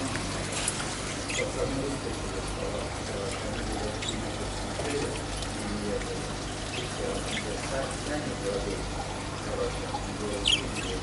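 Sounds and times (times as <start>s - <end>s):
aquarium water trickling: 0.0s - 11.0s.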